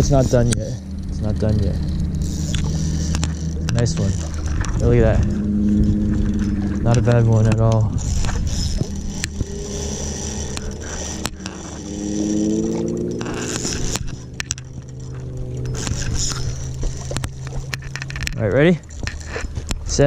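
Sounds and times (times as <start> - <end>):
low motor hum: 0.0 - 20.0
scraping and clicks of handling: 1.5 - 20.0.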